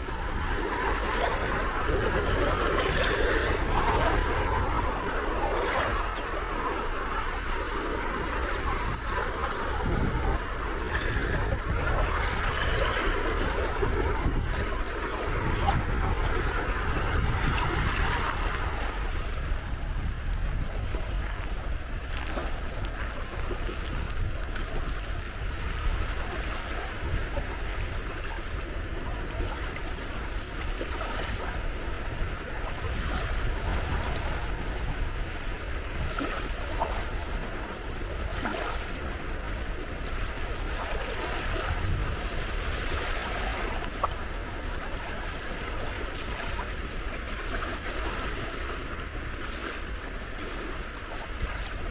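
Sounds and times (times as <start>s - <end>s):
sea waves washing on shore: 0.0s - 51.9s
wind buffeting microphone: 0.0s - 51.9s.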